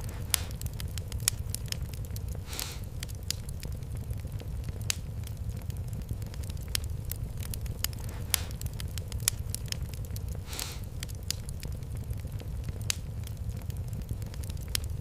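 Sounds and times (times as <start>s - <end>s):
fire hissing: 0.0s - 15.0s
fireplace fire crackling: 0.0s - 15.0s.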